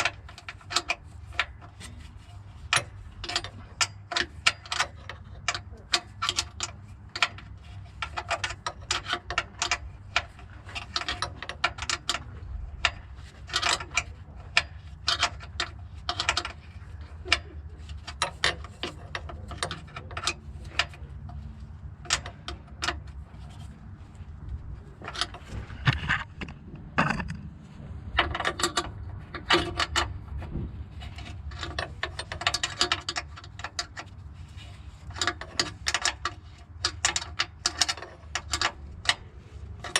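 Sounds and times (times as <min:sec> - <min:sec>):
hand tools clicking and knocking: 0:00.0 - 0:23.7, 0:28.2 - 0:39.9
steady low hum: 0:00.0 - 0:37.3.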